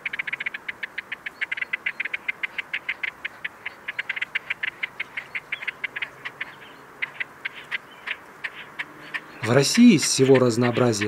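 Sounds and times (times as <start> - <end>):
grebes ticking calls: 0.0 - 11.0.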